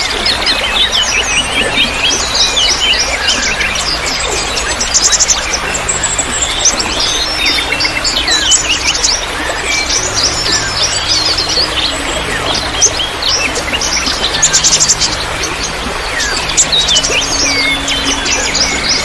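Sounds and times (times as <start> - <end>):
songbirds chirping: 0.0 - 19.0
steady noisy background: 0.0 - 19.0.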